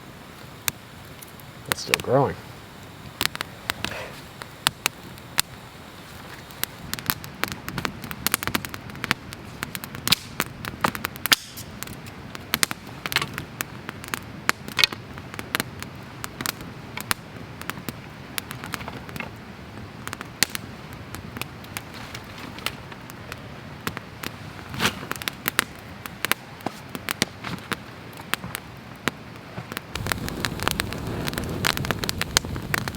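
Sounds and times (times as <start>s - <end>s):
campfire crackling and popping: 0.0s - 32.9s
low rush of flame: 0.0s - 32.9s.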